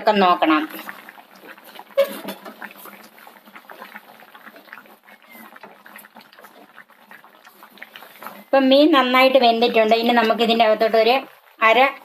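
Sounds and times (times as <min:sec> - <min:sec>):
curry bubbling in clay pot: 0:00.0 - 0:12.0.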